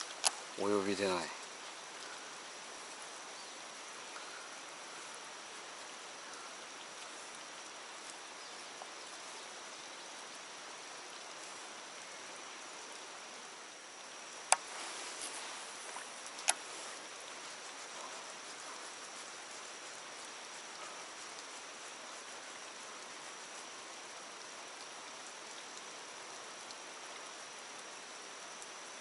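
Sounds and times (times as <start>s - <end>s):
water hissing: 0.0s - 26.7s.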